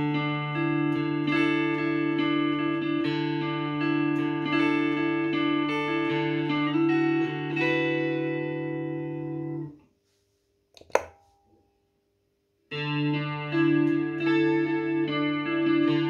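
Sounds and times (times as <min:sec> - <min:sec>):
electric guitar chords with chorus: 0:00.0 - 0:09.7, 0:12.7 - 0:16.0.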